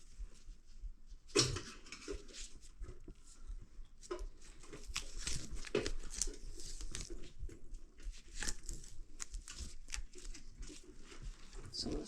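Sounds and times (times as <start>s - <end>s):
hands rustling: 0.0s - 12.0s.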